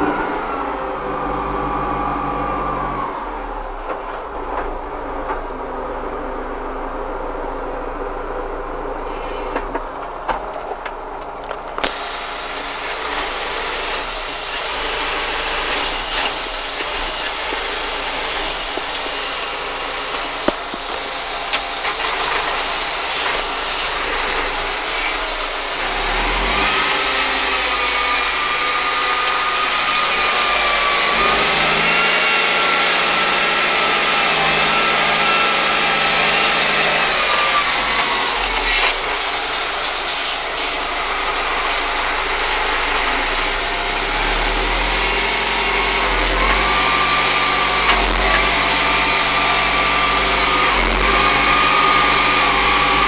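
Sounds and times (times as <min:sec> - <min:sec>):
engine whine: 0:00.0 - 0:53.0
tractor engine running: 0:00.0 - 0:53.0.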